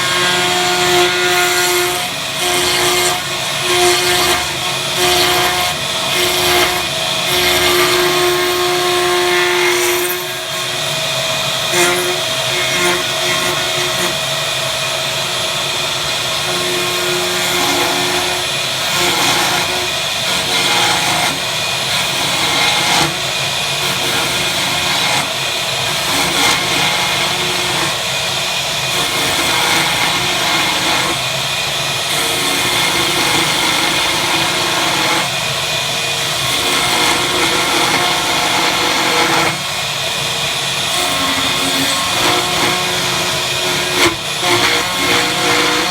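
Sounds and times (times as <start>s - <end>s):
power tool running: 0.0s - 45.9s.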